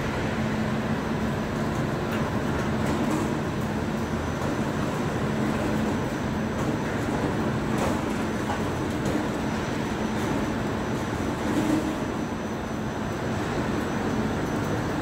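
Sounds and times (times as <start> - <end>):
food-processing machinery humming: 0.0 - 15.0.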